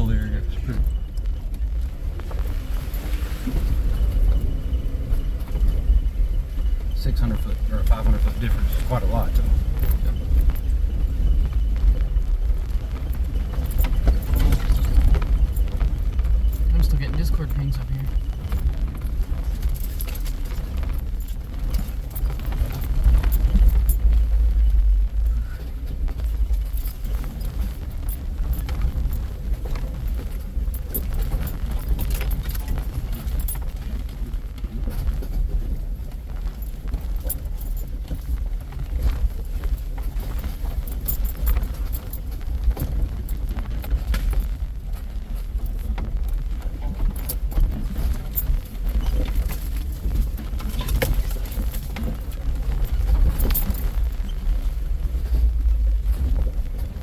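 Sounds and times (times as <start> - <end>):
rattles and knocks: 0.0 - 57.0
vehicle cabin rumble: 0.0 - 57.0.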